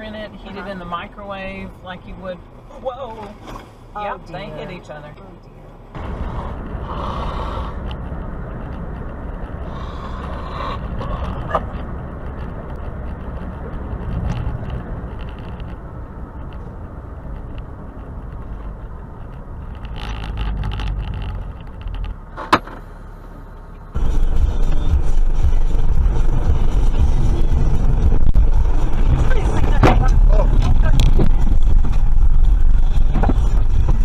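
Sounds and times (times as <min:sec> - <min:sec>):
road and engine rumble in vehicle: 0:00.0 - 0:34.0.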